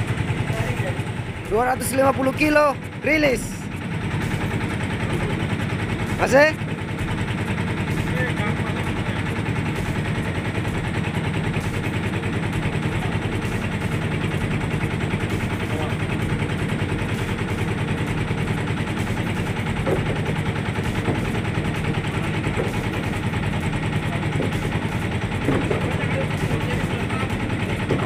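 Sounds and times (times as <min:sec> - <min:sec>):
engine running with clattering beat: 0:00.0 - 0:28.0.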